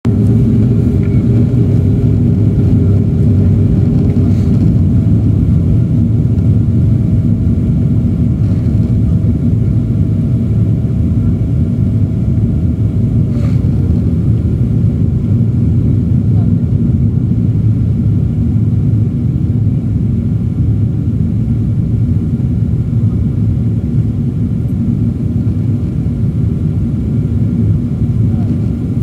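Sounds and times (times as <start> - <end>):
airplane cabin roar: 0.0 - 29.0
faint steady engine tones: 0.1 - 29.0.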